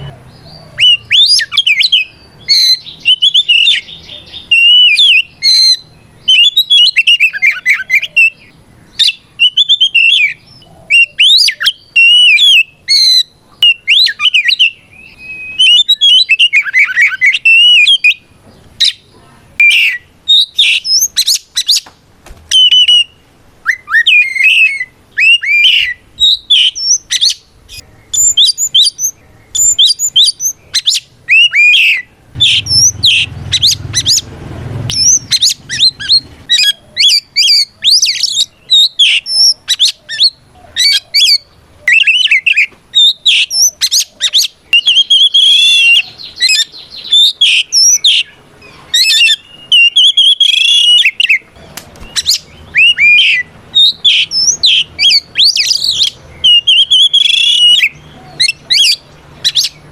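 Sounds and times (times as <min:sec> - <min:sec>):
bird singing whistles and chirps: 0:00.0 - 0:21.9, 0:22.5 - 0:59.9.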